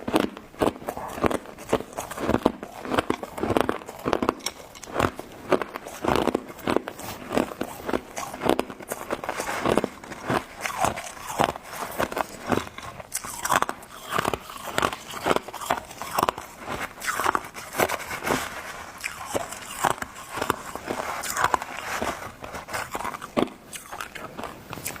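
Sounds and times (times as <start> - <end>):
person chewing crunchy ice: 0.0 - 25.0.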